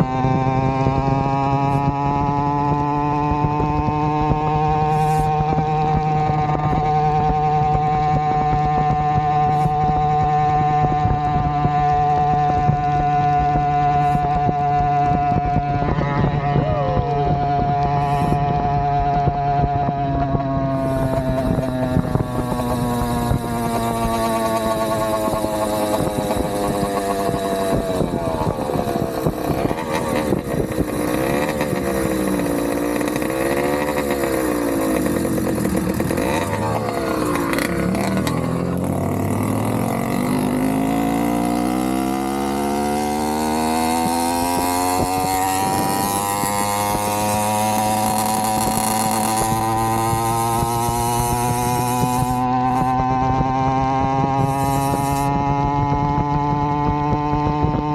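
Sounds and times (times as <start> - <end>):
two-stroke bicycle engine running: 0.0 - 57.9.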